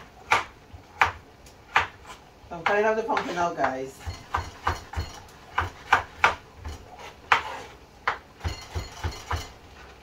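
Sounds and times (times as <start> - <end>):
knife chopping on wooden board: 0.0 - 9.5.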